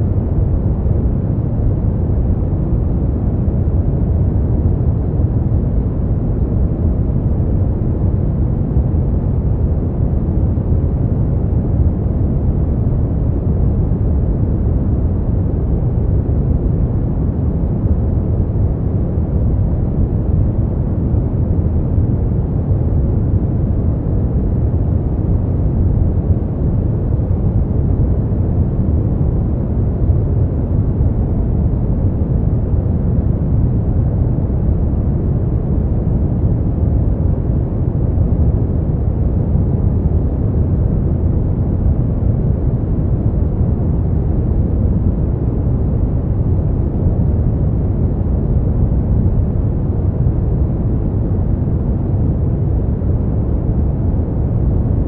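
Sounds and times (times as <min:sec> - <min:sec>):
deep low rumbling noise: 0:00.0 - 0:55.0.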